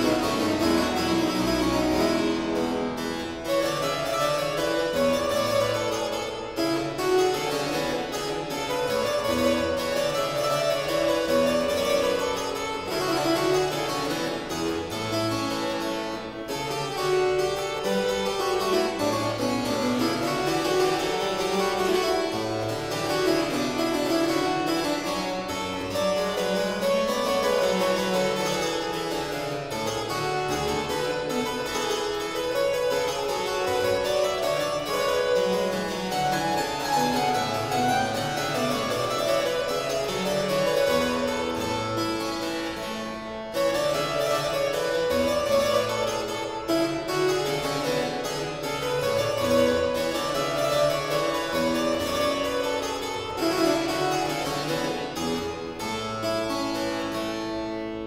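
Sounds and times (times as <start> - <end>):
harpsichord playing: 0.0 - 58.0.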